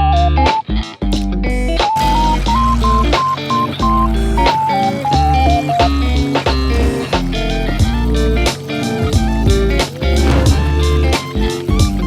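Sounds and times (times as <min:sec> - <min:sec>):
electric guitar tune: 0:00.0 - 0:12.0.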